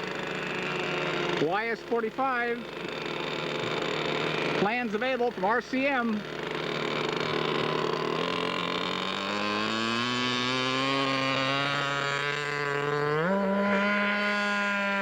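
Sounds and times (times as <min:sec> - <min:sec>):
model aircraft engine revving: 0:00.0 - 0:15.0.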